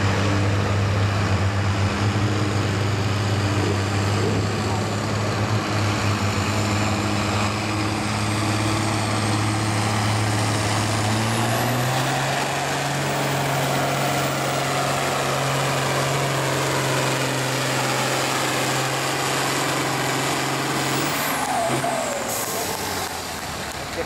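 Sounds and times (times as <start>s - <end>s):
tractor engine droning under load: 0.0s - 24.0s.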